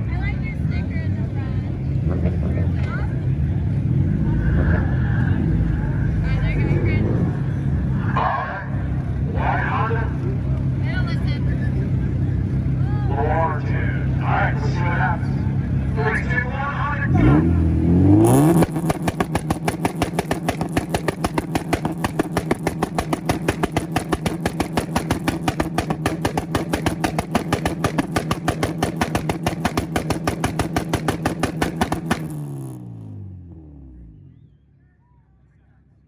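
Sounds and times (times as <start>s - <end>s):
car engine on launch limiter: 0.5s - 34.8s.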